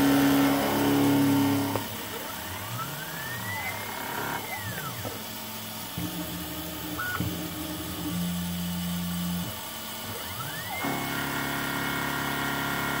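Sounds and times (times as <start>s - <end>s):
drive motors whining: 0.0s - 13.0s
milling spindle running: 0.0s - 13.0s.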